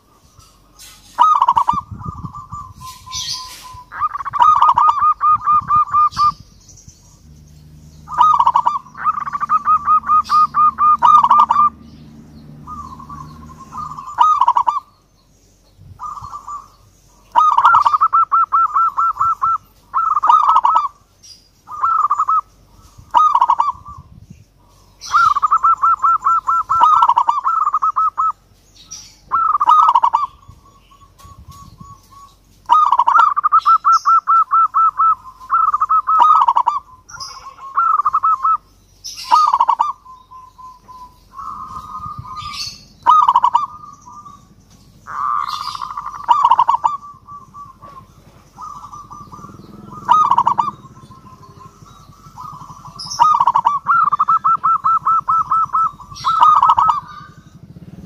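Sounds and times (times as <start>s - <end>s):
dove cooing: 0.0s - 6.5s, 7.1s - 15.0s, 16.0s - 58.0s.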